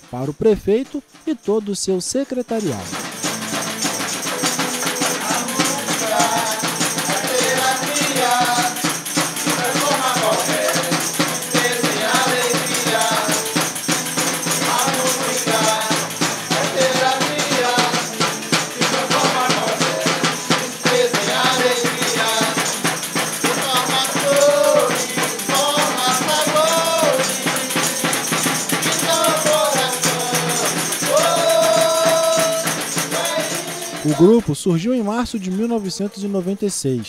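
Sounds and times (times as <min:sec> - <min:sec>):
tambourines shaking: 0:00.0 - 0:37.0
strummed acoustic guitars: 0:02.3 - 0:37.0
group singing: 0:03.4 - 0:34.6.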